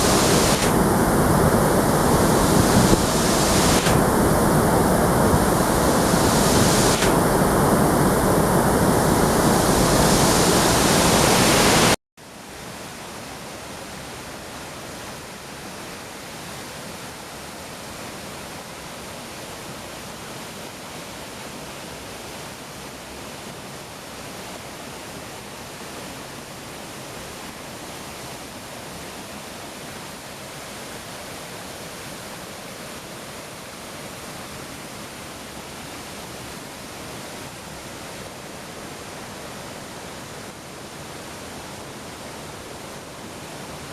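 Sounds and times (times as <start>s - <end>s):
rush of falling water: 0.0s - 43.9s.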